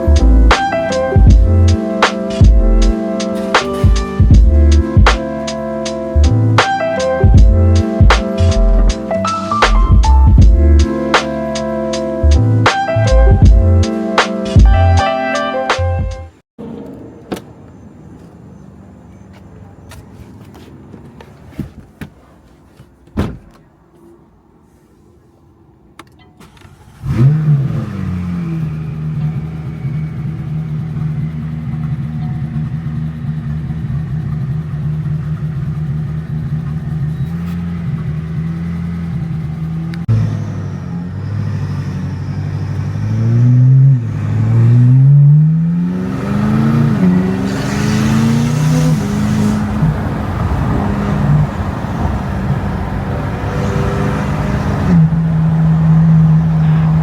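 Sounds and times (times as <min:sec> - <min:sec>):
car engine starting and revving: 0:00.0 - 0:15.0, 0:26.4 - 0:57.0.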